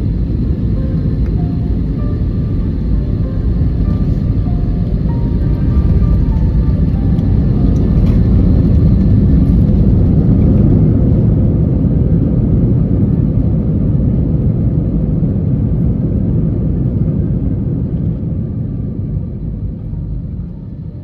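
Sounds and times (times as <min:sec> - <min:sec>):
aircraft cabin rumble on runway: 0:00.0 - 0:21.0.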